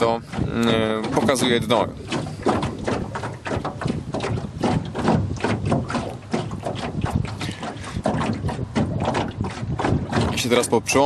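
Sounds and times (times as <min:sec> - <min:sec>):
water splashing against boat hull: 0:00.0 - 0:11.0.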